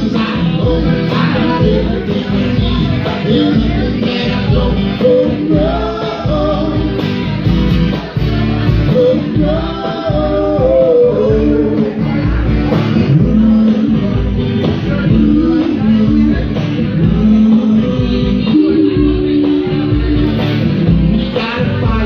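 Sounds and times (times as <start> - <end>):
man singing: 0.0 - 22.0
strummed acoustic guitar: 0.0 - 22.0.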